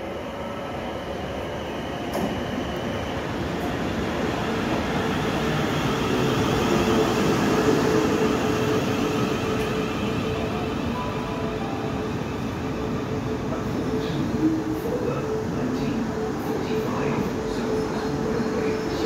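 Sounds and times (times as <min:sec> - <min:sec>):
electric train hum: 0:00.0 - 0:19.0.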